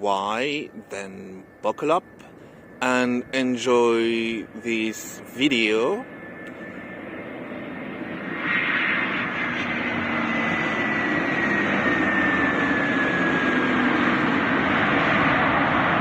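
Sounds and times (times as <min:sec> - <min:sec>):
jet airliner engines: 0:00.0 - 0:16.0.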